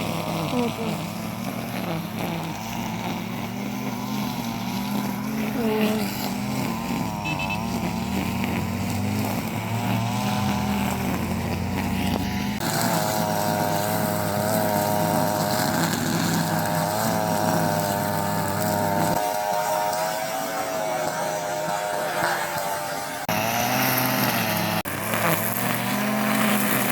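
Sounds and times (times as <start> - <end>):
car engine and road noise: 0.0 - 19.6, 20.5 - 26.9.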